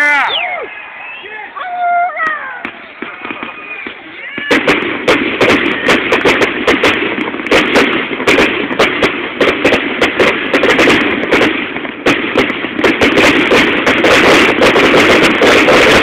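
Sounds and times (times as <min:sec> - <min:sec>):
fireworks banging and crackling: 0:00.0 - 0:16.0.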